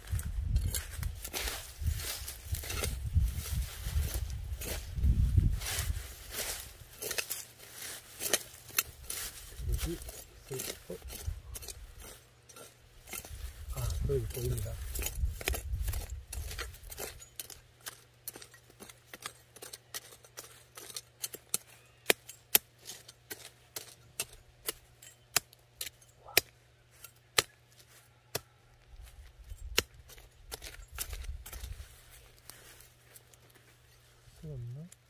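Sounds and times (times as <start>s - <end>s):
hoe striking stony soil: 0.2s - 5.0s, 6.4s - 28.5s, 29.1s - 31.8s.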